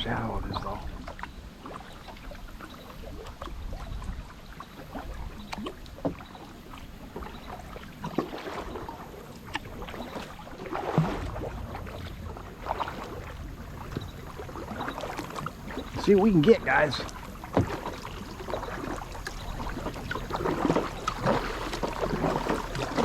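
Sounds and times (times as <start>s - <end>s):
paddle strokes splashing: 0.0s - 23.0s.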